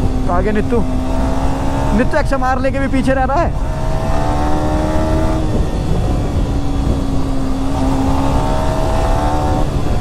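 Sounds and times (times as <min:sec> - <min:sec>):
motorcycle engine cruising: 0:00.0 - 0:10.0
wind rush on microphone: 0:00.0 - 0:10.0.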